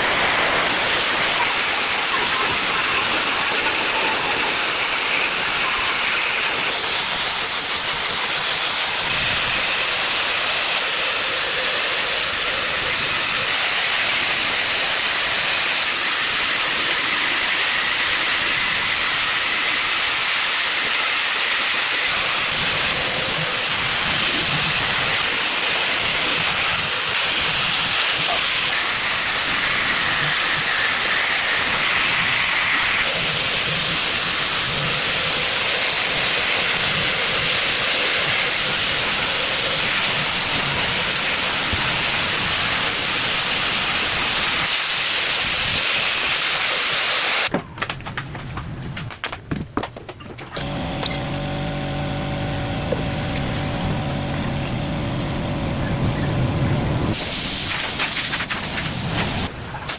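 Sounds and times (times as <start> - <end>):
loud steady hiss: 0.0 - 47.5, 50.6 - 59.9.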